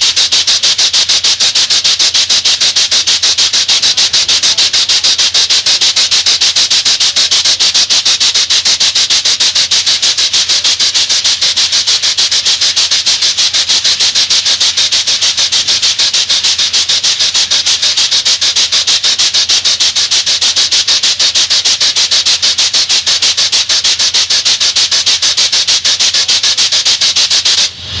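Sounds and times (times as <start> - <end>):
steam locomotive exhaust chuffing: 0.0 - 28.0.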